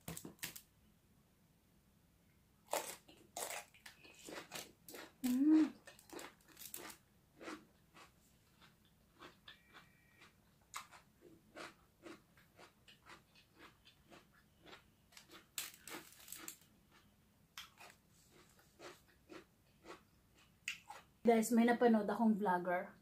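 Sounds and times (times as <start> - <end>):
person chewing crunchy food: 2.7 - 21.2.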